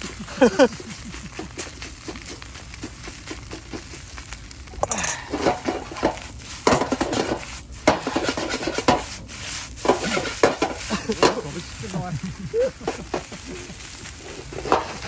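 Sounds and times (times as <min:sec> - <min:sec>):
utensil scraping frying pan: 0:00.0 - 0:15.0.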